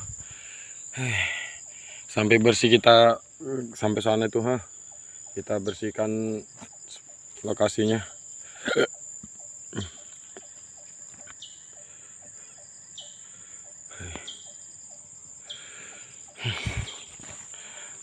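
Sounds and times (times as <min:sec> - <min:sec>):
crickets buzzing: 0:00.0 - 0:18.0.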